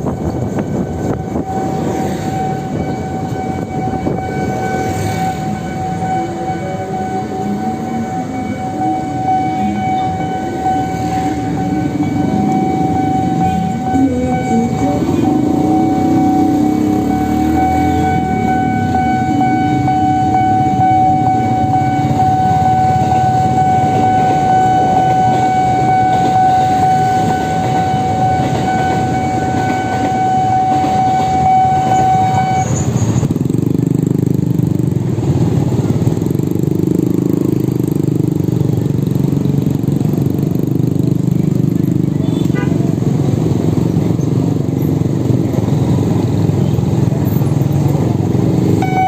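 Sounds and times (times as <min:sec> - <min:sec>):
wind and road noise: 0:00.0 - 0:07.3, 0:10.5 - 0:49.0.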